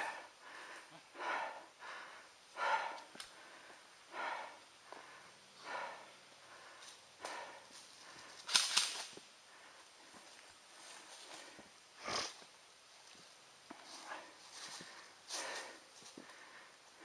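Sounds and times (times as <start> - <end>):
person breathing heavily: 0.0 - 8.5, 9.4 - 12.4, 13.9 - 17.0.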